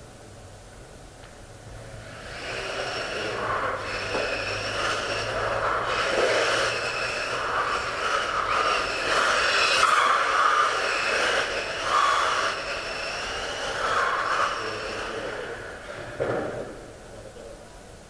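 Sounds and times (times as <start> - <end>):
rc cars electric whine: 1.2 - 17.6.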